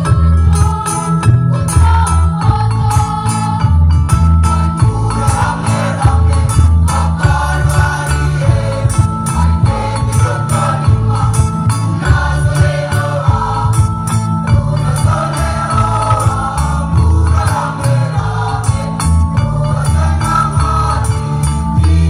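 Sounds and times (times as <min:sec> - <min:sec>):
choir singing: 0:00.0 - 0:22.0
heavy sustained bass notes: 0:00.0 - 0:22.0
steady percussive beat: 0:00.0 - 0:22.0.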